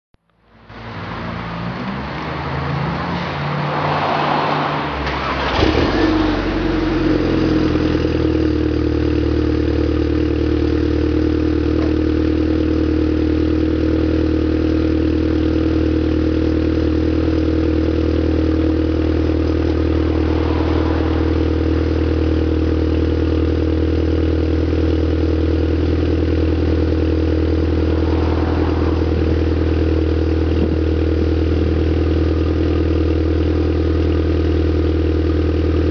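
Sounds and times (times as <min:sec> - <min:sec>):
car engine idling: 0:04.7 - 0:35.9.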